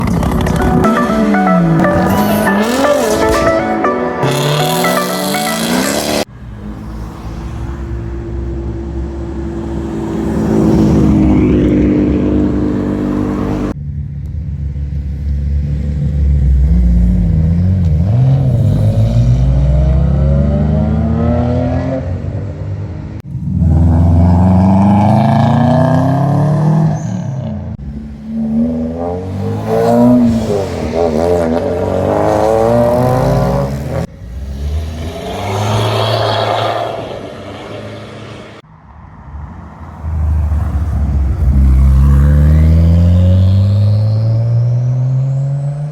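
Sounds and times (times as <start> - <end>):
cars accelerating and revving: 0.0 - 13.8, 15.5 - 45.9.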